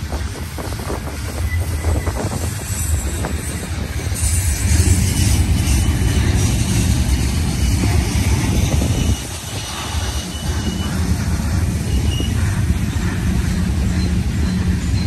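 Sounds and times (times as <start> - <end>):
freight train cars rolling past: 0.0 - 15.0.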